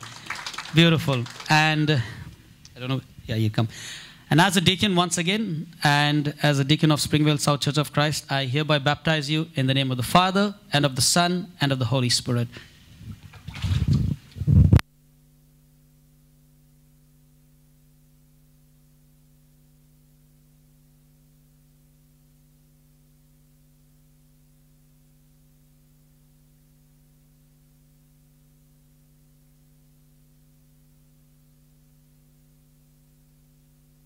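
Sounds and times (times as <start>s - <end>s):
faint electrical hum with hiss: 0.0s - 34.0s.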